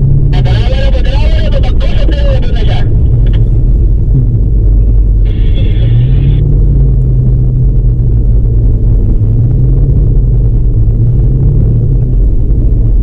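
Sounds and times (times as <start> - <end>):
off-road vehicle driving on sand: 0.0 - 13.0.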